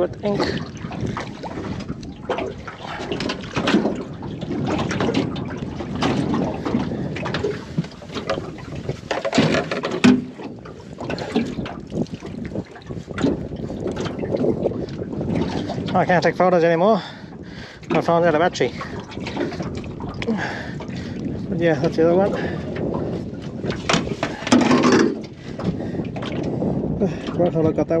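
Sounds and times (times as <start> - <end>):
knocks in a small boat: 0.0 - 16.2, 17.8 - 26.6
water splashing and trickling: 0.0 - 28.0
wind on microphone: 0.0 - 28.0.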